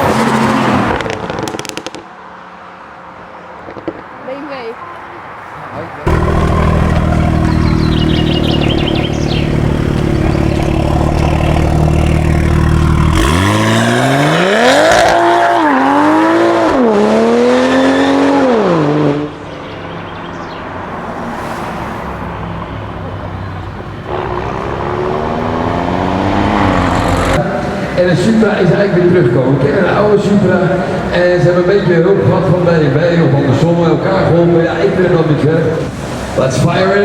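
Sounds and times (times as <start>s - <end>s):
car engine idling and revving: 0.0s - 2.1s, 5.8s - 36.6s.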